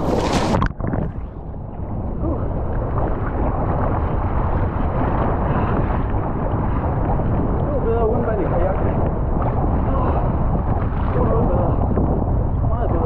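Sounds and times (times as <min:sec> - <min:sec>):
sea water washing around kayak: 0:00.0 - 0:13.0
water splashing on camera: 0:00.0 - 0:13.0
wind on microphone: 0:00.0 - 0:13.0.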